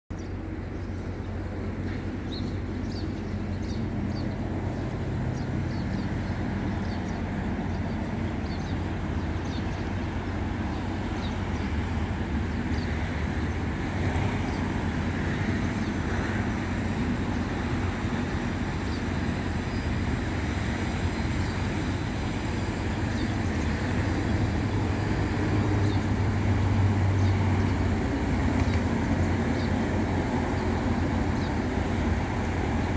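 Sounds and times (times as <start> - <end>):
road traffic rumble: 0.1 - 32.9.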